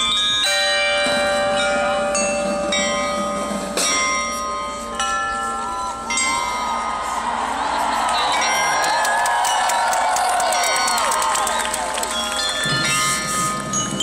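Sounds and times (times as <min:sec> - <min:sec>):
bells ringing: 0:00.0 - 0:14.0.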